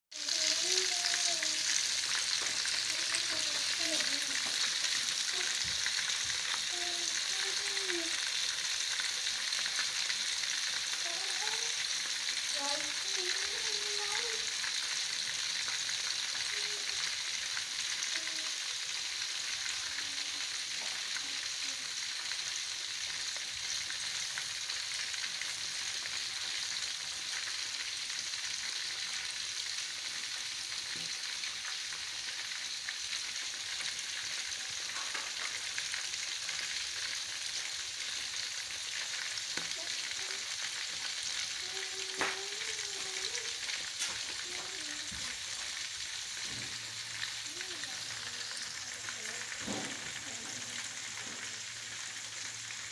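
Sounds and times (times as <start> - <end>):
chicken sizzling in oil: 0.1 - 52.9.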